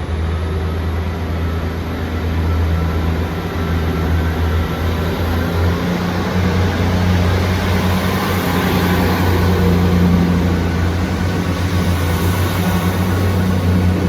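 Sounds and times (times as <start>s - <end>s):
diesel train engine droning: 0.0s - 14.0s.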